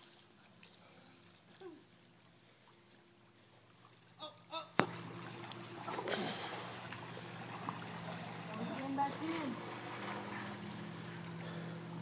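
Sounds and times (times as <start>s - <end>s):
water splashing in pool: 0.0s - 4.1s, 4.7s - 12.0s.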